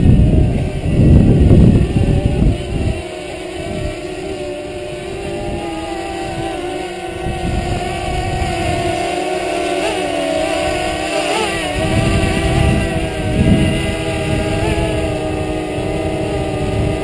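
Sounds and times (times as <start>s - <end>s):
drone propellers whining: 0.0s - 17.0s
wind buffeting microphone: 0.0s - 17.0s.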